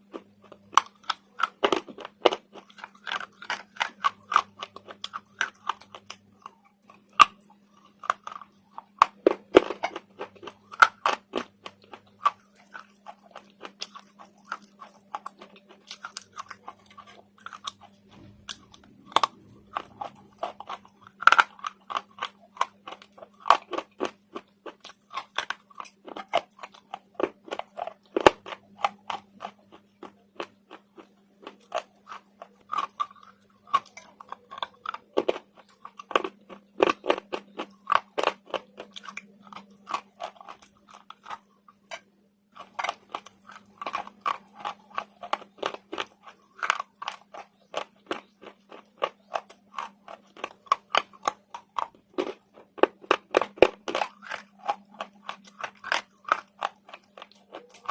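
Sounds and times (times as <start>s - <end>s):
slate being bitten and chewed: 0.0s - 57.9s.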